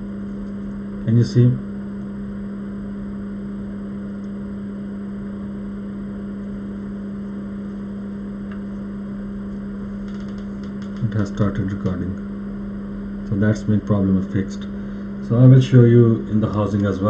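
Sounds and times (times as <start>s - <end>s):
low hum with faint hiss: 0.0s - 17.0s.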